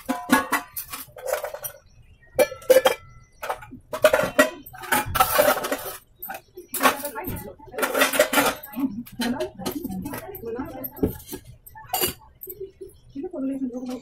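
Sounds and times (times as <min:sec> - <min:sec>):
metal utensils and pots clattering: 0:00.0 - 0:14.0.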